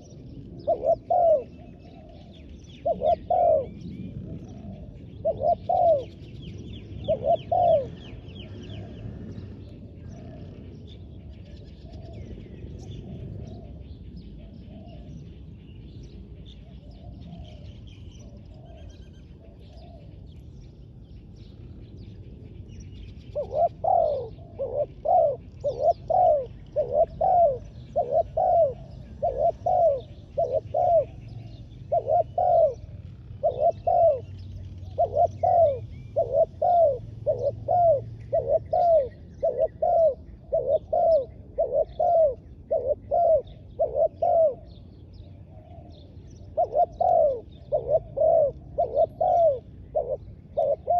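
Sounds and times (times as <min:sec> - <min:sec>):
dove cooing: 0:00.0 - 0:15.4, 0:16.5 - 0:20.4, 0:23.3 - 0:50.9
small birds chirping: 0:00.0 - 0:50.9.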